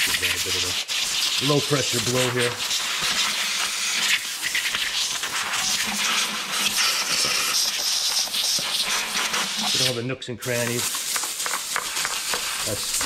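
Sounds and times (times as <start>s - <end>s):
compressed air blow gun hissing: 0.0s - 13.0s.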